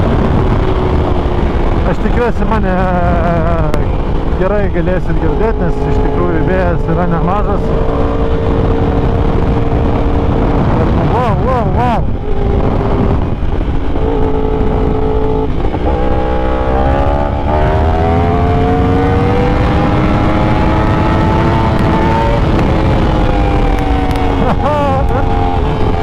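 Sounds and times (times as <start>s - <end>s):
low rumble: 0.0s - 26.0s
motorcycle engine revving: 0.0s - 26.0s.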